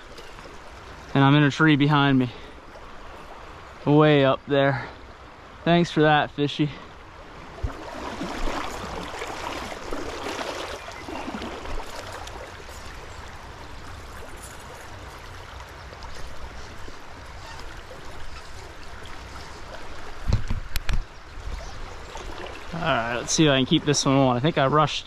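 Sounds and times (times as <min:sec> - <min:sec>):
stream water flowing: 0:00.0 - 0:25.0.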